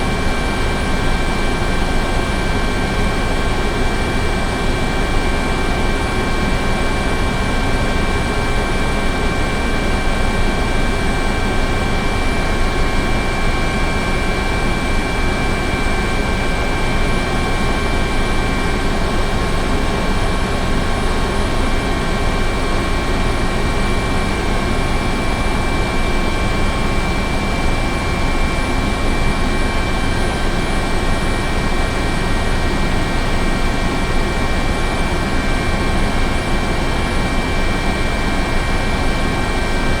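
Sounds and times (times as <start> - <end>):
helicopter turbine whine: 0.0 - 40.0.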